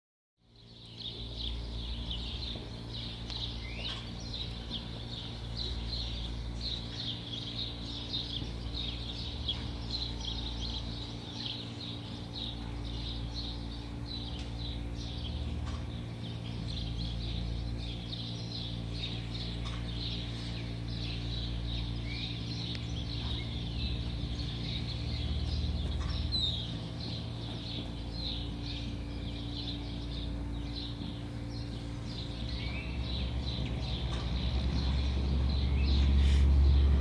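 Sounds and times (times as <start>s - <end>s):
small birds chirping: 0.4s - 37.0s
steady low hum: 0.4s - 37.0s.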